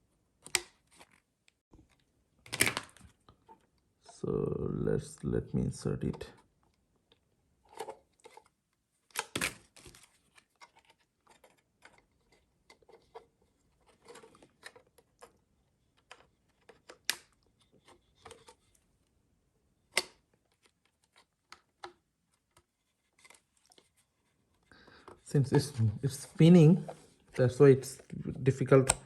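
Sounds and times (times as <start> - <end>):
plastic clicks and rubbing: 0.4 - 3.8, 6.0 - 18.9, 19.9 - 29.0.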